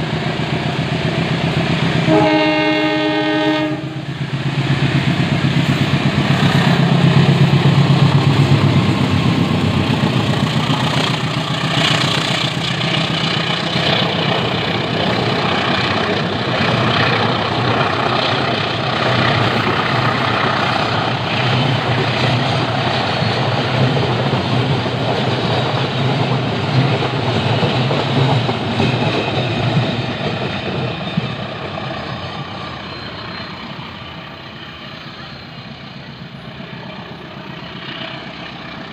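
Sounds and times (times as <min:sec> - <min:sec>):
locomotive engine drone: 0:00.0 - 0:38.9
train carriages rumbling: 0:00.0 - 0:38.9.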